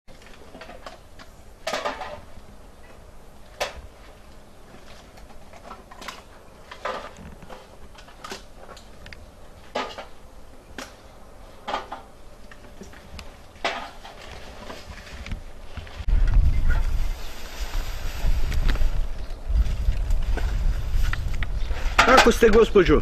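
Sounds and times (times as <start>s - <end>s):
cans and plastic clinking and crinkling: 0.1s - 16.0s, 17.1s - 22.7s.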